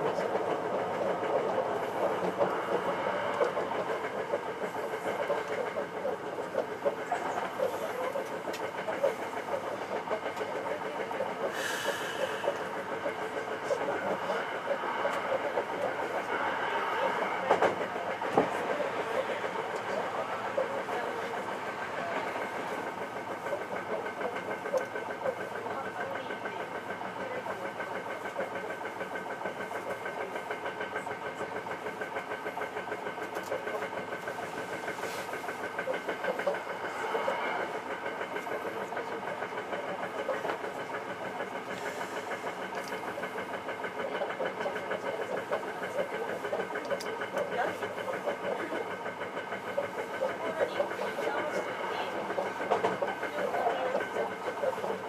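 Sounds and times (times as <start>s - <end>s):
train running on rails: 0.0s - 55.0s.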